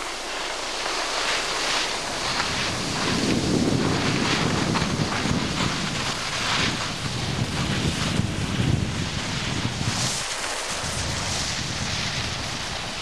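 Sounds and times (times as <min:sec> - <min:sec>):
wind rushing over microphone: 0:01.5 - 0:13.0.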